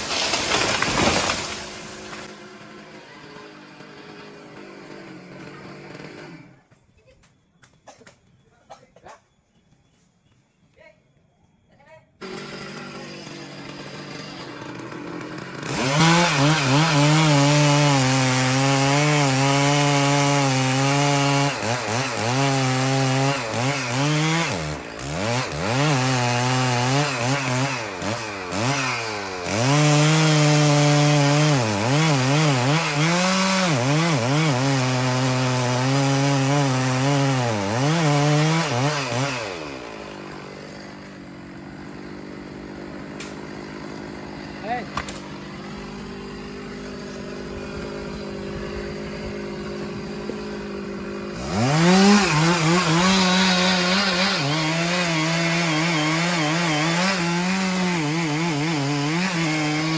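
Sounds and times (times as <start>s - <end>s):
chainsaw cutting wood: 0.0s - 6.8s, 12.2s - 59.9s.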